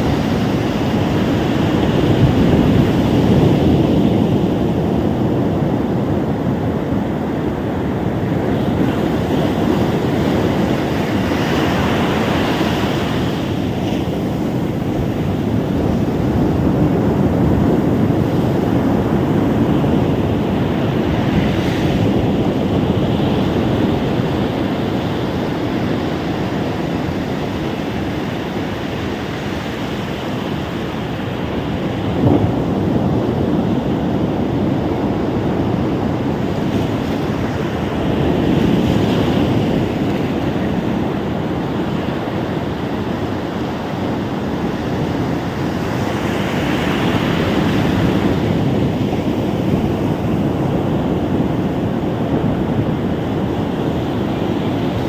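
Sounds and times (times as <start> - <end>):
waves breaking on beach: 0.0 - 55.0
wind on microphone: 0.0 - 55.0.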